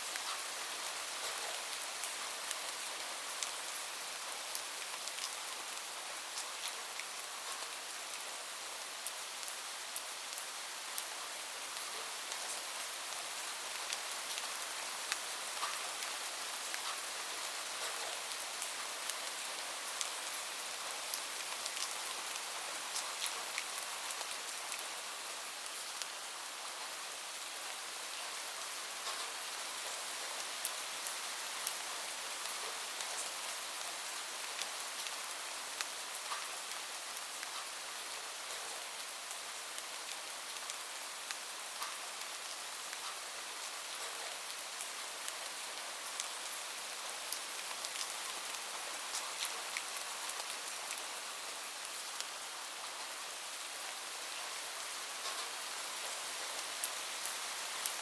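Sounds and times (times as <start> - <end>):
steady rain hiss: 0.0 - 58.0
raindrops ticking on a surface: 0.1 - 8.3, 9.0 - 58.0.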